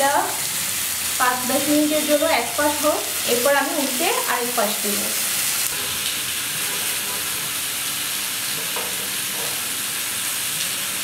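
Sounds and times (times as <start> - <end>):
steak sizzling in a grill pan: 0.0 - 11.0.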